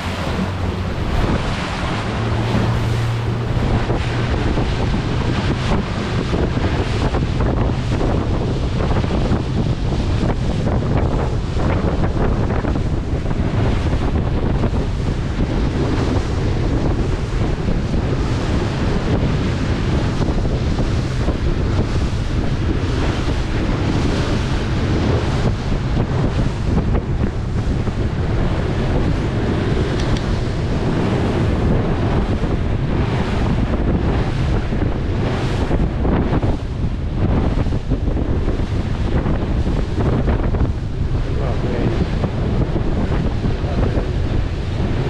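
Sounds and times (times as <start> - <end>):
water rushing past hull: 0.0 - 45.0
wind buffeting microphone: 0.0 - 45.0.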